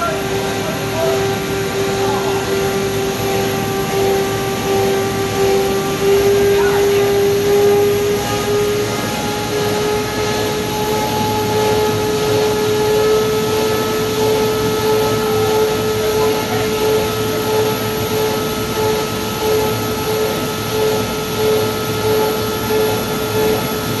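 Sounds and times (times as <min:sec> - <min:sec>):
constant whining tone: 0:00.0 - 0:24.0
industrial machinery drone: 0:00.0 - 0:24.0.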